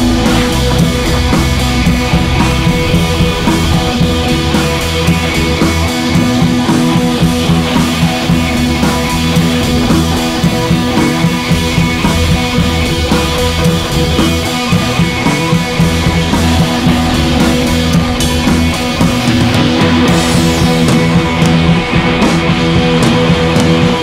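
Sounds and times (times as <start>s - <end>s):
rock music with guitar and drums: 0.0s - 24.0s.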